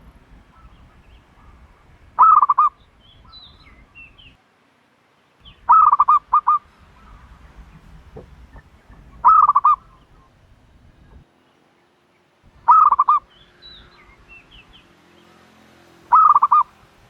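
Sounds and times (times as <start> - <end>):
dove calling: 0.0 - 4.4, 5.4 - 15.5, 16.1 - 17.0
small birds chirping: 0.0 - 4.4, 5.2 - 17.0.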